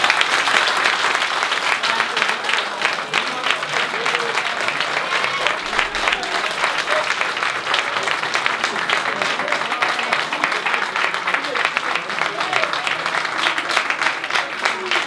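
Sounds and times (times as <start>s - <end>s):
people applauding: 0.0s - 15.0s.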